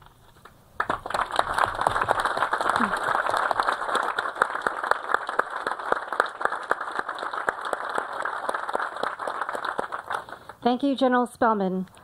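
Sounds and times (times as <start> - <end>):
audience applauding: 0.8 - 10.6.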